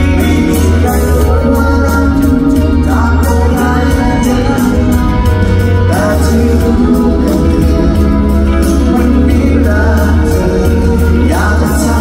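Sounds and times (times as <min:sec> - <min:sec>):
live pop band music: 0:00.0 - 0:12.0
man singing: 0:00.0 - 0:12.0.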